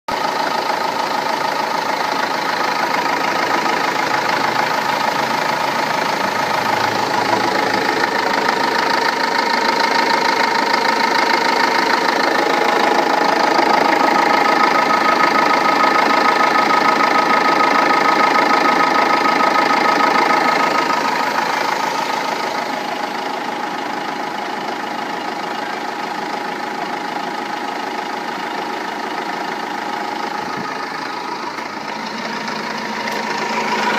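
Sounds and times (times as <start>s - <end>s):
diesel engine idling with knocking: 0.1s - 33.9s.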